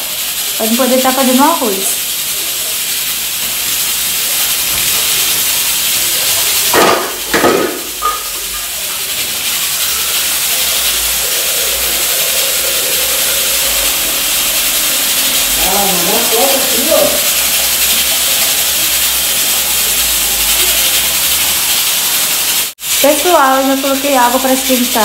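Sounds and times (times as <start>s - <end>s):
tap water filling a pot: 0.0s - 22.7s
food sizzling in a pan: 0.0s - 25.0s.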